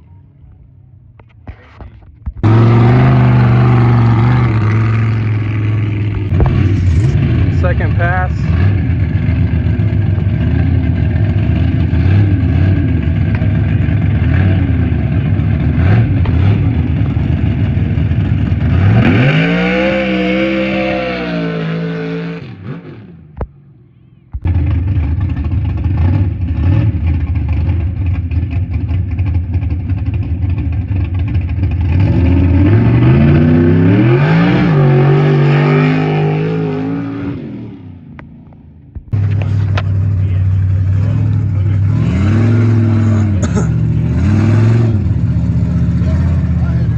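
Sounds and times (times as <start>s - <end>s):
truck engine revving under load: 2.4s - 27.8s, 31.7s - 38.3s, 39.0s - 46.9s.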